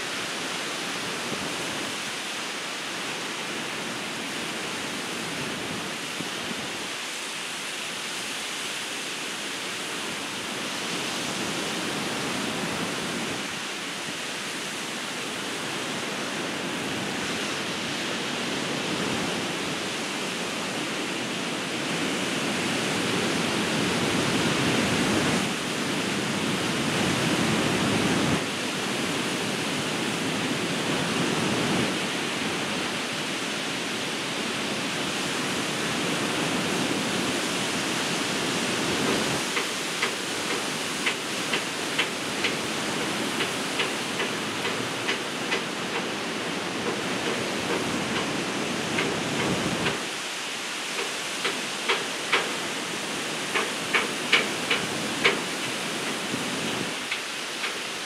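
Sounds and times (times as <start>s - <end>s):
surf breaking on beach: 0.0s - 58.0s.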